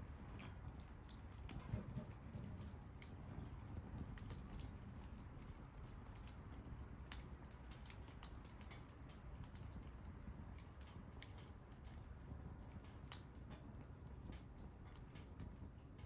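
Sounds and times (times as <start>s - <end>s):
fire pops and snaps: 0.0s - 16.0s
low rumble of flames: 0.0s - 16.0s
wood fire crackling: 0.0s - 16.0s.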